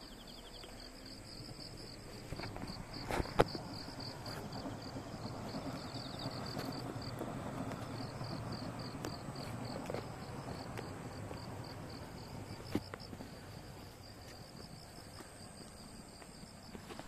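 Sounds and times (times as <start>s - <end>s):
distant train rumble: 0.0s - 17.0s
insect chirping: 0.0s - 17.0s.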